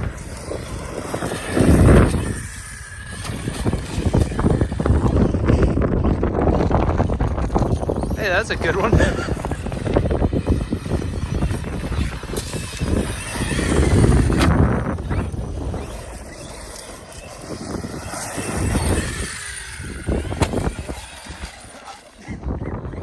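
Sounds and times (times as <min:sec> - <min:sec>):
rc car electric motor: 0:00.0 - 0:23.0.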